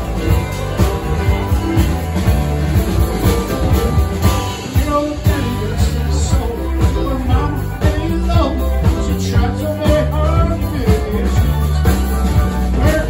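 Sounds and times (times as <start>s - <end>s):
live band playing: 0.0s - 13.0s
steady drum beat: 0.0s - 13.0s.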